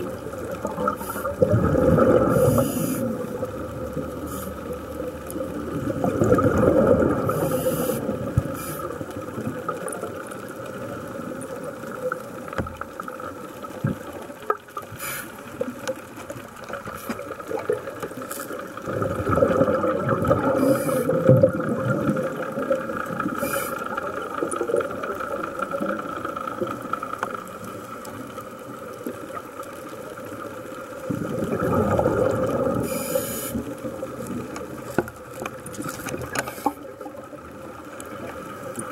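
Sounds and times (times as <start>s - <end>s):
steady underwater hum: 0.0s - 38.9s
underwater rushing gurgling water: 0.0s - 38.9s.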